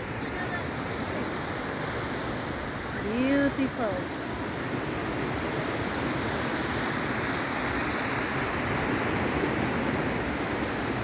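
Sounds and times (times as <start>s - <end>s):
sea surf breaking on a beach: 0.0s - 11.0s.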